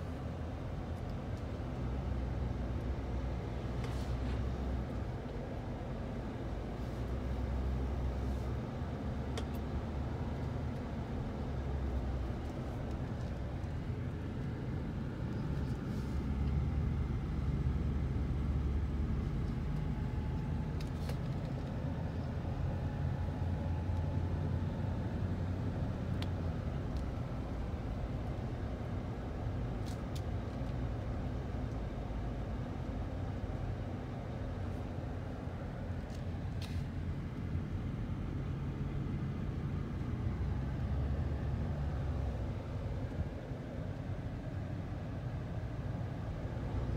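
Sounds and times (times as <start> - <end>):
car engine and tyres rumbling: 0.0 - 46.9.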